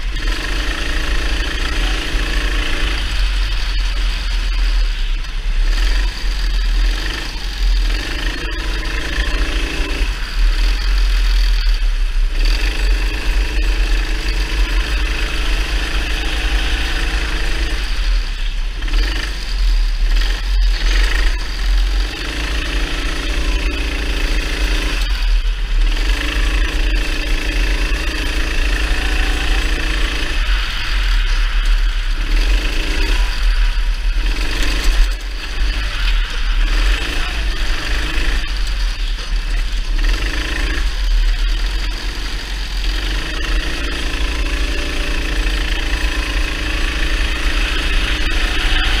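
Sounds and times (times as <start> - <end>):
kart engine revving: 0.0 - 49.0.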